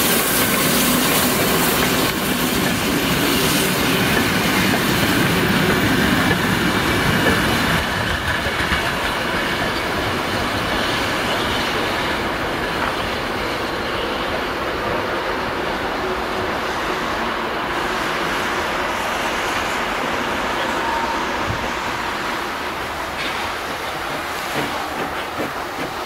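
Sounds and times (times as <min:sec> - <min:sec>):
train wheels running over rails: 0:00.0 - 0:26.0.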